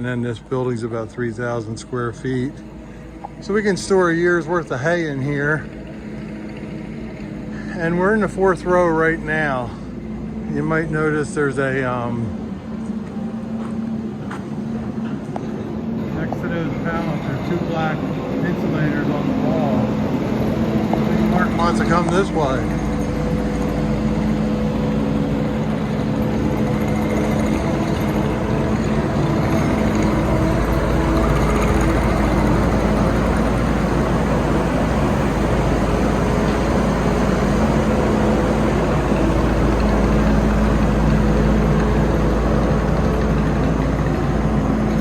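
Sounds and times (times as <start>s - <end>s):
diesel engine rumbling: 0.0s - 45.0s.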